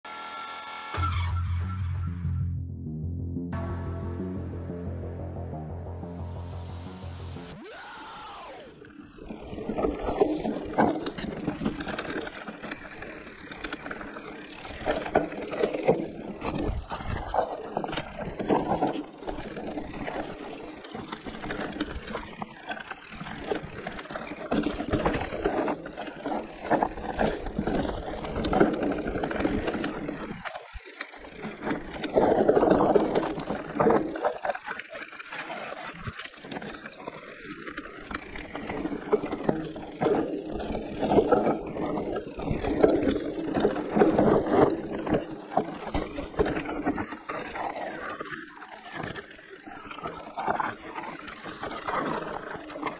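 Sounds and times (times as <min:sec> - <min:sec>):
bike clattering over bumps: 0:09.2 - 0:52.9.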